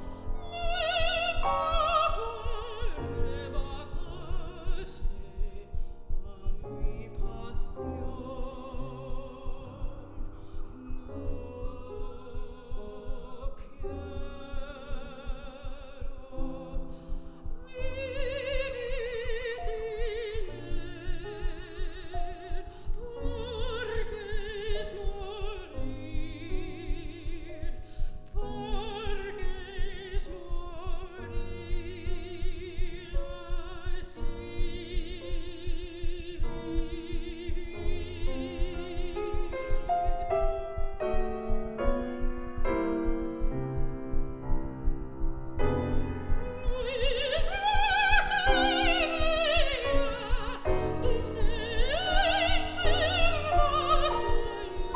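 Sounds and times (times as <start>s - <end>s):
soprano singing with vibrato: 0.0s - 44.1s, 45.6s - 54.9s
piano accompaniment: 0.0s - 54.9s.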